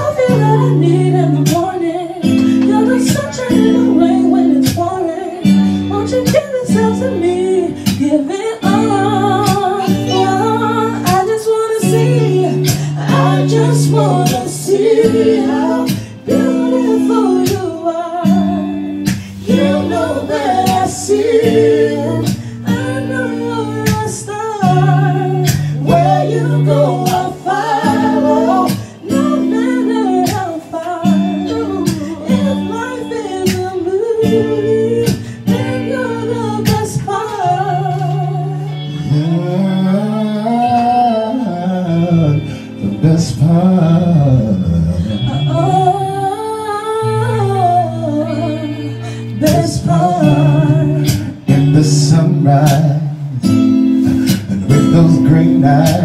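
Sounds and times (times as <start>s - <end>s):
woman singing r and b song: 0.0s - 41.6s, 45.2s - 53.0s
man singing: 0.0s - 46.3s, 49.0s - 56.0s
guitar chords and beat: 0.0s - 56.0s.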